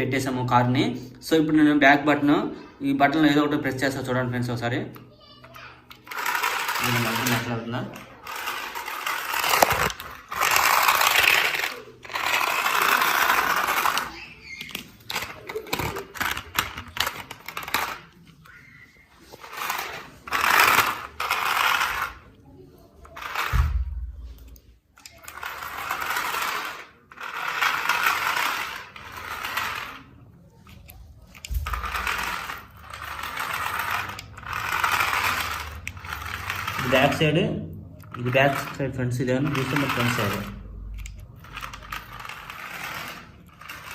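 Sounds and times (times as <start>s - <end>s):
toy car electric motors whirring: 5.0s - 22.4s, 23.0s - 37.4s, 38.0s - 43.9s.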